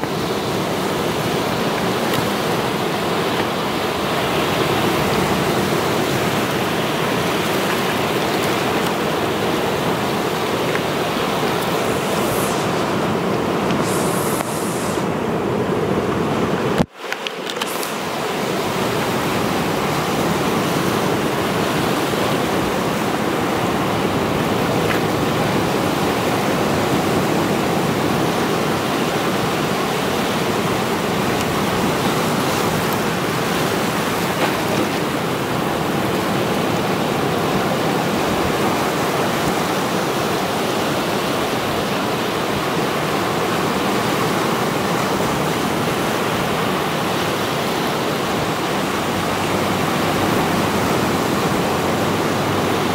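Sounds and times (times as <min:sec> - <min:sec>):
waves washing over rocky shore: 0:00.0 - 0:52.9.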